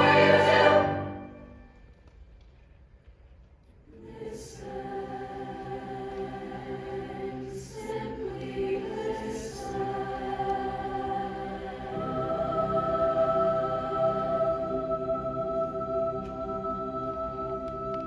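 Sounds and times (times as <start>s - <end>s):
choir singing sustained chords: 0.0s - 1.8s, 3.9s - 18.0s.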